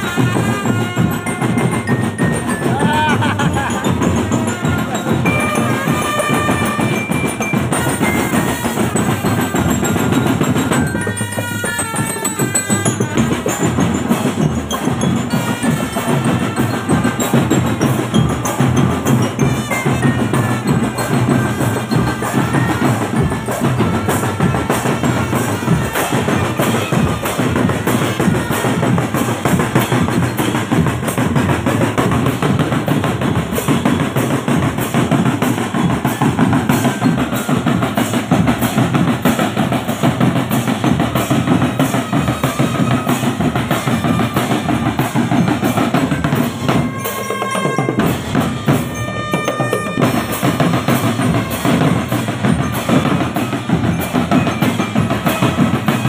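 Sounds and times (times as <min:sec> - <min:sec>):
marching drums: 0:00.0 - 0:56.0.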